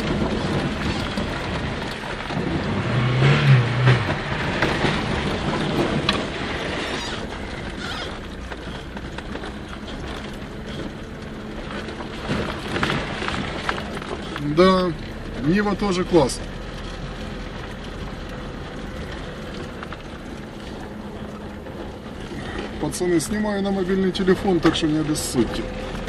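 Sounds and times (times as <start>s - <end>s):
car engine running: 0.0s - 26.0s
tyres rumbling over frozen ground: 0.0s - 26.0s.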